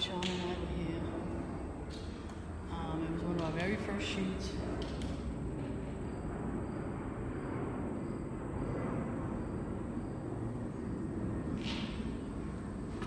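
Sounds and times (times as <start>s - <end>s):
low rumbling outdoor background: 0.0s - 13.0s.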